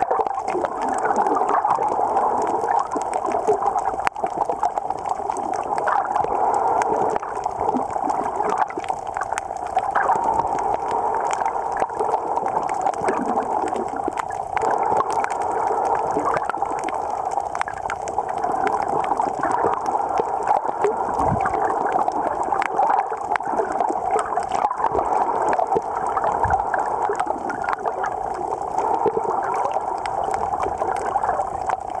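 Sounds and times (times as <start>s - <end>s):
muffled underwater rush: 0.0s - 32.0s.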